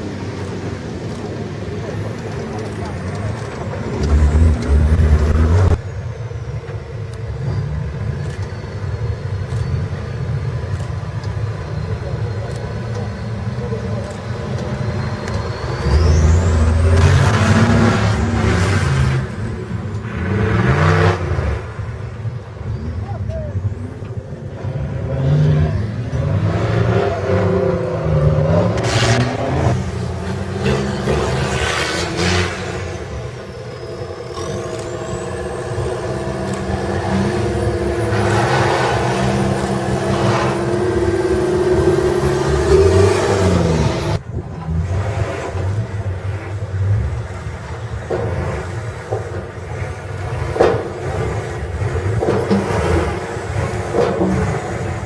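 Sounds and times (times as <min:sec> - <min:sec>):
low steady engine rumble: 0:00.0 - 0:55.0
off-road vehicle engine revving: 0:00.0 - 0:55.0.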